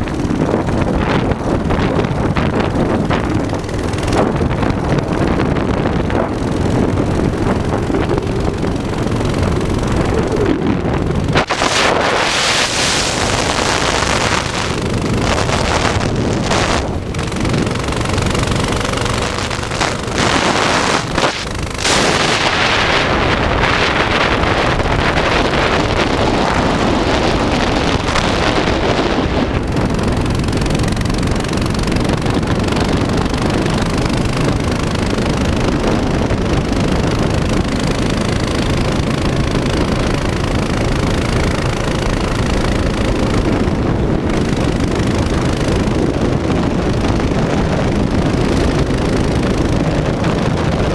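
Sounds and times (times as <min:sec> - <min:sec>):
small motorbike engine running: 0:00.0 - 0:50.9
wind buffeting microphone: 0:00.0 - 0:50.9.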